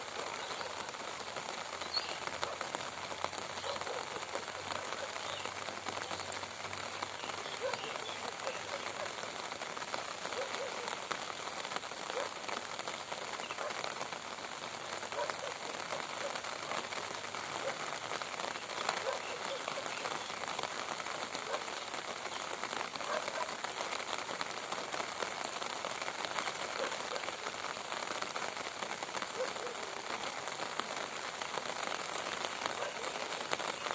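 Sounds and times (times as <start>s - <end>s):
raindrops hitting close by: 0.0s - 33.9s
steady rain: 0.0s - 33.9s.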